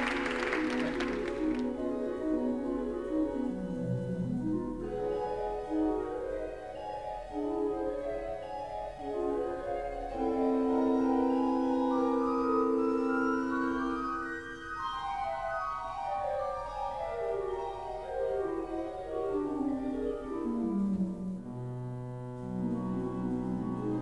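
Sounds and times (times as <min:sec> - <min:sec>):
pipe organ playing: 0:00.0 - 0:24.0.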